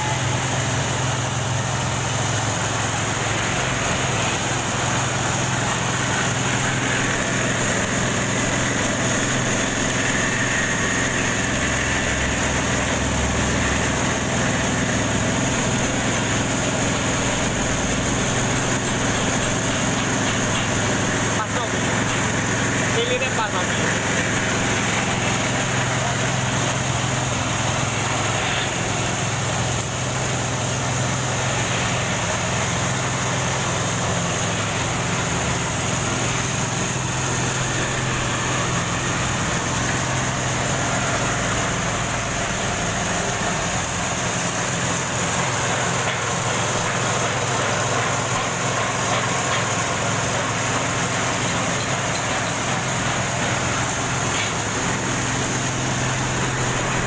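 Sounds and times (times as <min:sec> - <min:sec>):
juice press mechanical hum: 0:00.0 - 0:57.0.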